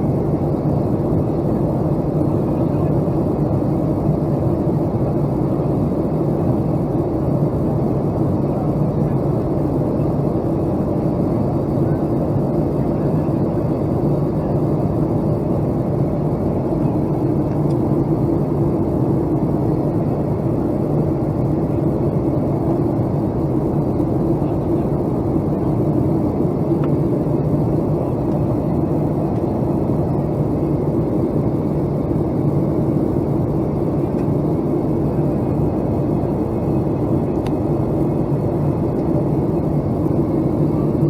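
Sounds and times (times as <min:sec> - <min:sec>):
airliner engine drone: 0:00.0 - 0:41.0.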